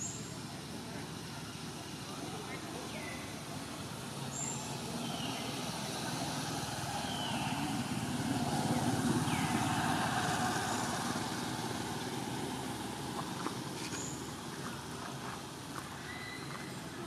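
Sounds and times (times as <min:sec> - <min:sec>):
motor vehicle passing by: 0:01.8 - 0:17.0.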